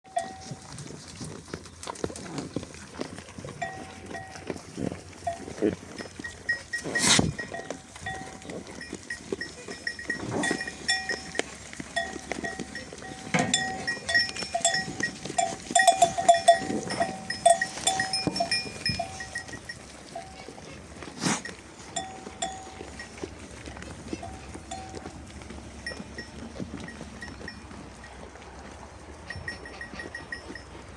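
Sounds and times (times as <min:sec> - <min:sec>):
sheep bells jangling: 0:00.1 - 0:01.6, 0:03.0 - 0:30.9.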